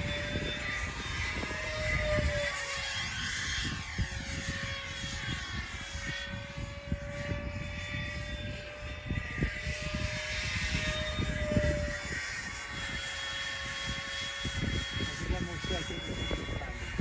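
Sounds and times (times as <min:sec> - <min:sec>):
electric ducted fan whining: 0:00.0 - 0:17.0
wind rumbling on microphone: 0:00.0 - 0:17.0.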